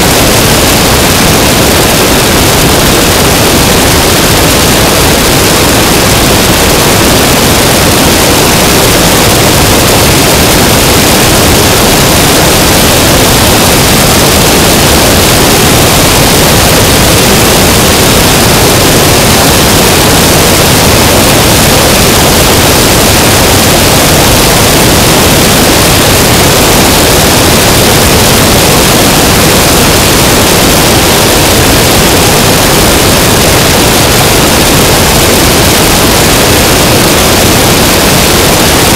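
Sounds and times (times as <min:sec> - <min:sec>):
aircraft engine noise: 0:00.0 - 0:38.9.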